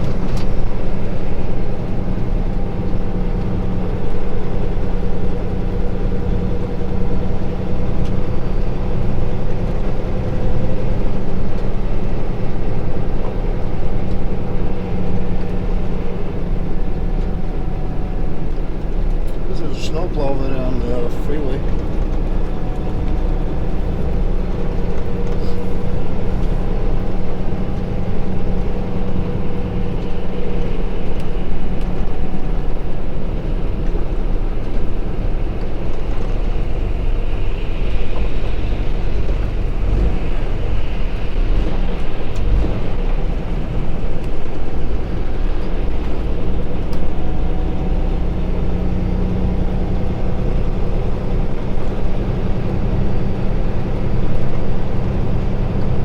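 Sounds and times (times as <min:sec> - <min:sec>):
road and wind noise: 0:00.0 - 0:56.0
truck diesel engine drone: 0:00.0 - 0:56.0.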